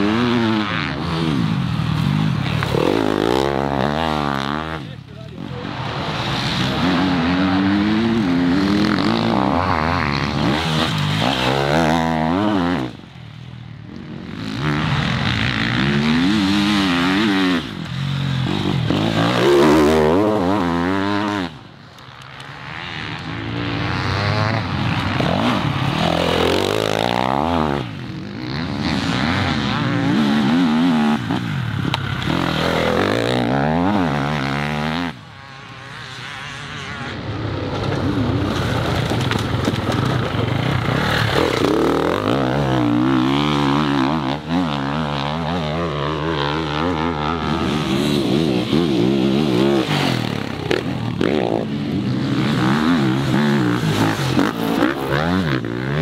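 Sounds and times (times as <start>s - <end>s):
dirt bikes revving: 0.0s - 56.0s.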